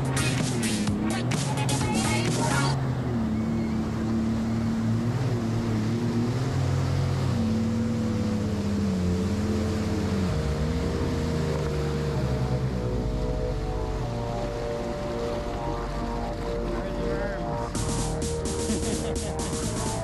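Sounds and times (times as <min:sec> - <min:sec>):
jet ski engine running: 0:00.0 - 0:20.0.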